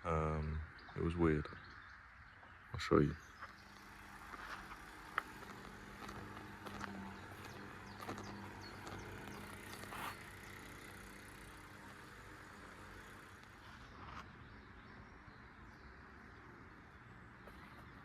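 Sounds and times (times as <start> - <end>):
steady low hum: 2.8 - 18.0.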